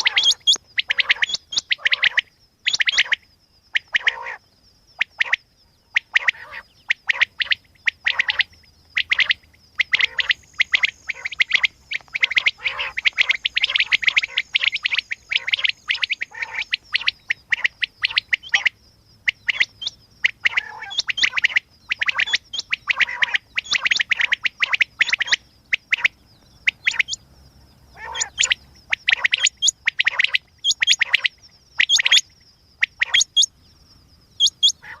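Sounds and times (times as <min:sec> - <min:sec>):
quail calling: 0:00.0 - 0:04.4, 0:05.0 - 0:33.6, 0:34.4 - 0:35.0.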